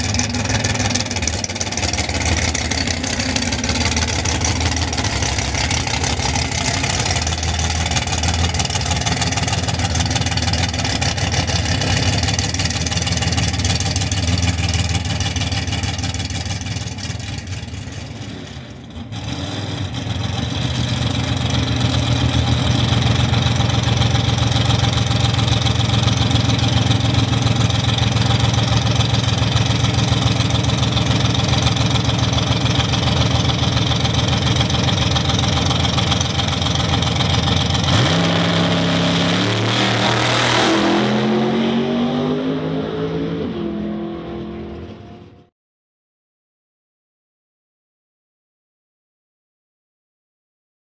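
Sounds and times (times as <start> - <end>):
drag race car engine: 0.0 - 45.5.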